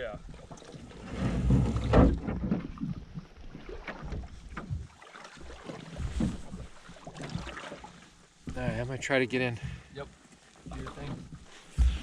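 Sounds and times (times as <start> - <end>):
canoe pushed into water: 0.2 - 9.0, 10.6 - 12.0
light knocks of canoe hull: 0.3 - 9.0, 10.6 - 12.0.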